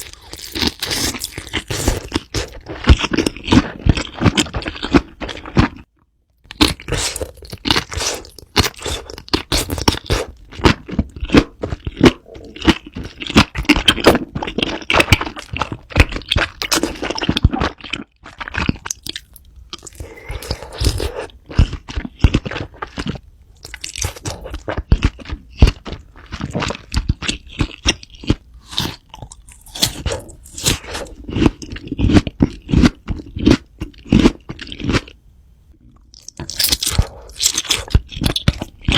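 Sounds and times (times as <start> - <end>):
crunchy chewing of food: 0.0 - 35.2, 35.8 - 38.9.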